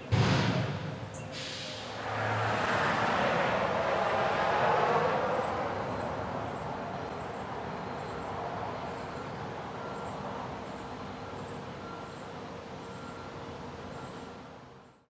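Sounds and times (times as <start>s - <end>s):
garbage truck driving away: 0.0s - 15.0s.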